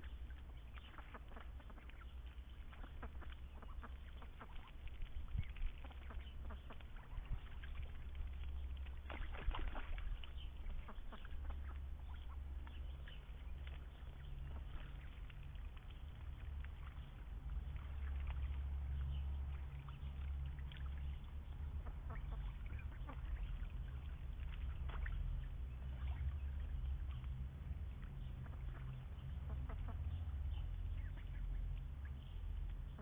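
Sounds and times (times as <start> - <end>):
ducks calling: 0.0 - 8.0, 9.0 - 15.4, 19.0 - 26.6, 28.1 - 33.0
steady low rumble: 0.0 - 33.0.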